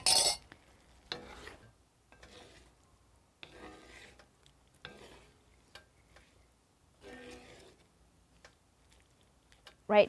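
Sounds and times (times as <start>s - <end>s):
wooden spatula scraping a wok: 0.0s - 9.8s.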